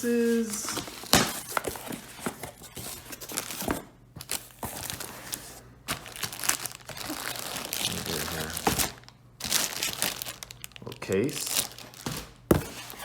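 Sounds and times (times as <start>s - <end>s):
packaging crinkling and tearing: 0.4s - 13.0s.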